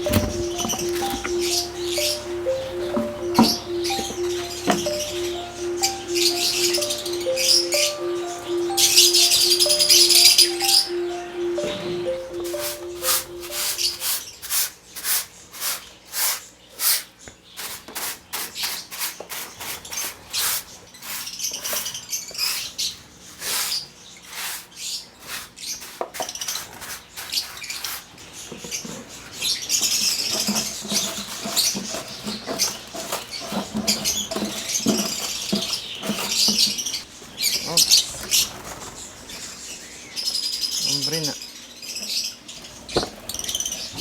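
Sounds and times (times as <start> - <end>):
cage birds chattering: 0.0 - 44.0.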